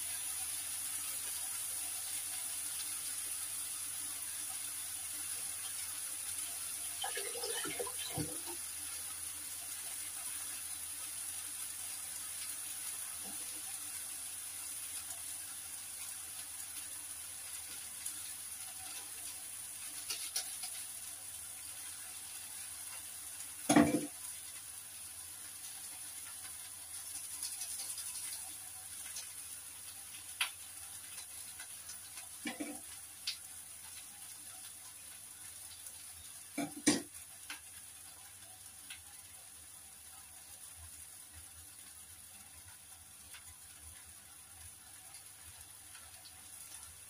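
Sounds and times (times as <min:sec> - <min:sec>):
food sizzling in frying pan: 0:00.0 - 0:47.0.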